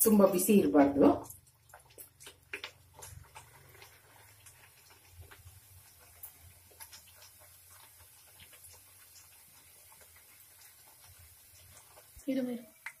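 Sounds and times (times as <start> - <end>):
oil crackling and popping: 0.0 - 13.0.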